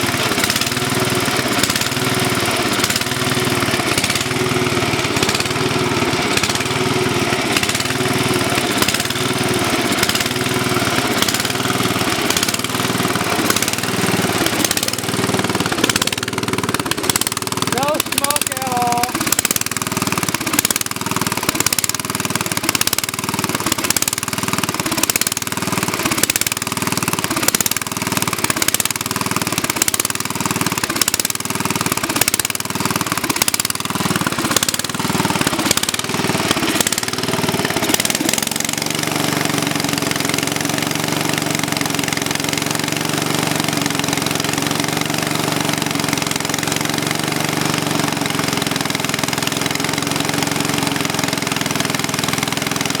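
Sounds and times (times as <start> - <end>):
garden tractor engine running: 0.0 - 53.0.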